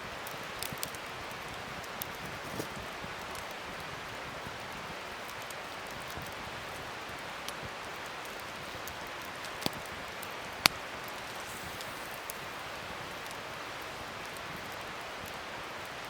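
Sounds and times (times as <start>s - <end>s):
wood fire crackling and popping: 0.1s - 16.0s.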